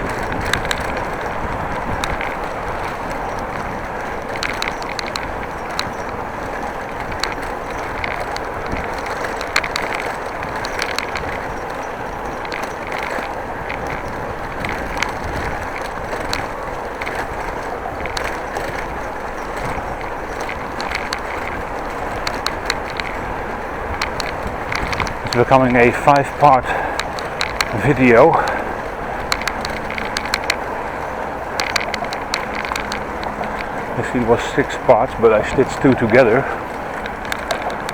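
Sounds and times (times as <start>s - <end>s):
bicycle rolling: 0.0s - 37.9s
bicycle ticks and rattles: 0.0s - 37.9s
wind noise: 0.0s - 37.9s.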